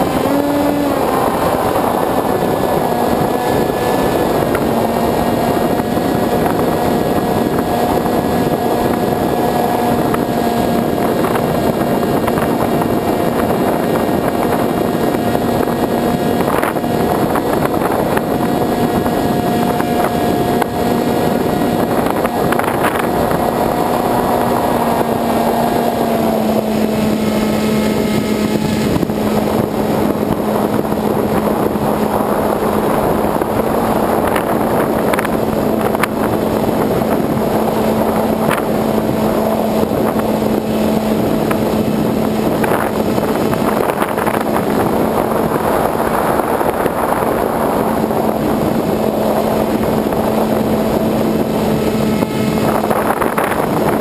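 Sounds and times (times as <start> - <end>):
wind rushing past microphone: 0.0 - 54.0.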